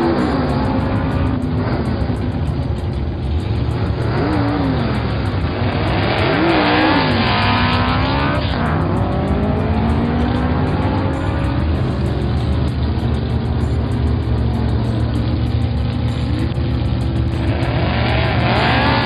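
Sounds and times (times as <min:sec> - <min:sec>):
race car engines revving: 0:00.0 - 0:19.0
steady low rumble: 0:00.0 - 0:19.0.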